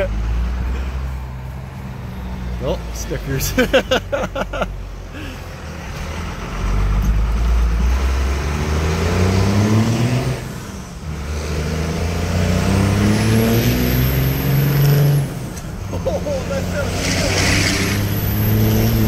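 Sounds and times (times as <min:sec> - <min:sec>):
diesel engine accelerating: 0:00.0 - 0:19.0.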